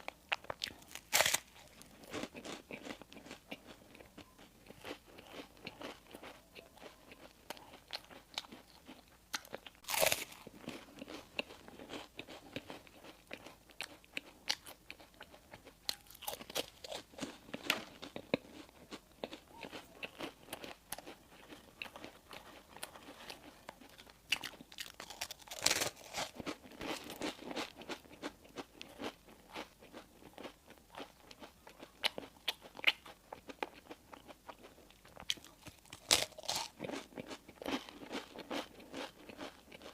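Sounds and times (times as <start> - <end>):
crisp bites and chewing: 0.0 - 34.0, 34.6 - 39.9.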